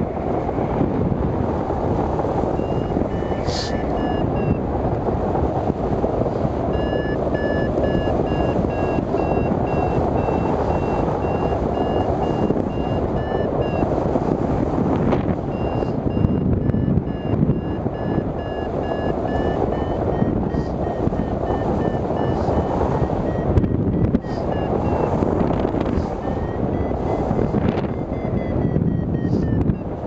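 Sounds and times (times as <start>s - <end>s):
variometer beeping: 0.0s - 30.0s
wind rushing over microphone: 0.0s - 30.0s.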